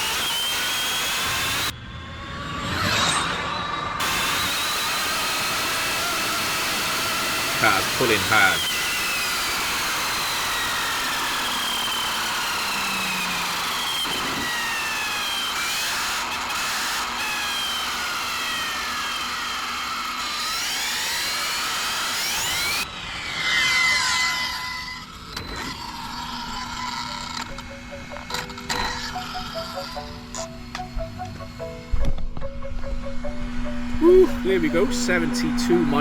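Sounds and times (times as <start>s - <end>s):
electric motor high whine: 0.0s - 36.0s.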